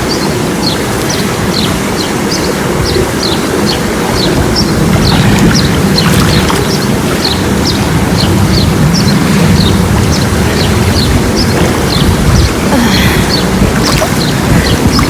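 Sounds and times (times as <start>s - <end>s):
birds chirping: 0.0s - 15.0s
steady low rumble: 2.7s - 15.0s.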